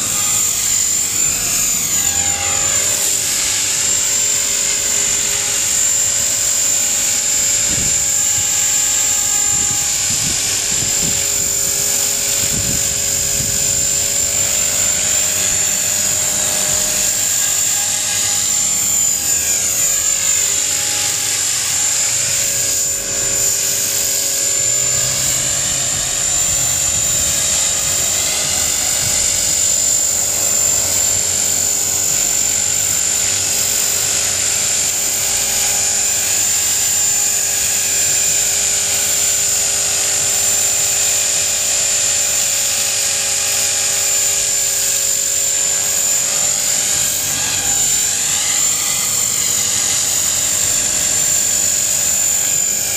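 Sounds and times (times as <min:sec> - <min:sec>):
rc helicopter motor whine: 0:00.0 - 0:52.9
spinning rotors buzzing: 0:00.0 - 0:52.9.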